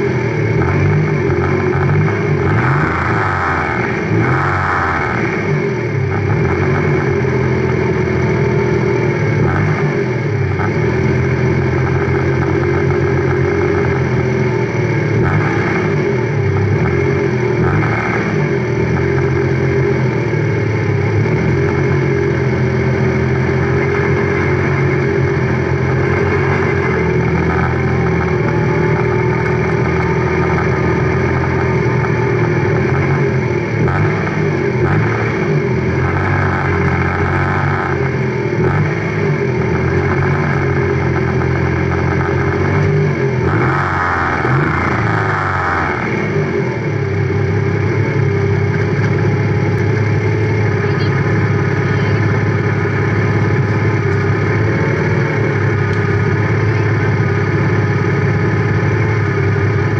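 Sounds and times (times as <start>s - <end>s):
race car engine at low revs: 0.0s - 59.9s.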